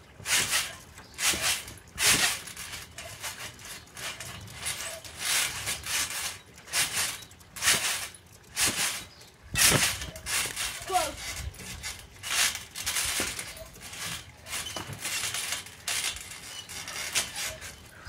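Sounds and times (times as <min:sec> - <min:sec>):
trampoline springs creaking: 0:00.0 - 0:18.0.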